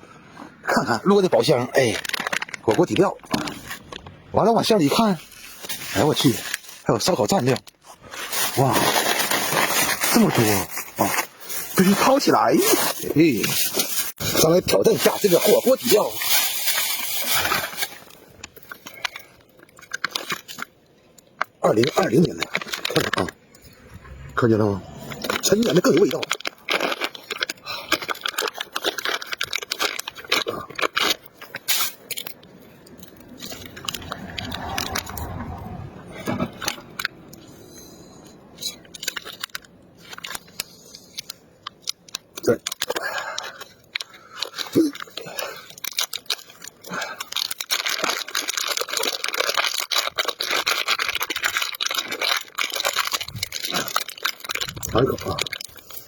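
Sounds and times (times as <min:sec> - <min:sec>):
plastic packaging crinkling: 0:00.7 - 0:56.0
packaging ripping: 0:01.4 - 0:20.8, 0:21.4 - 0:24.3, 0:24.9 - 0:37.4, 0:38.7 - 0:56.0.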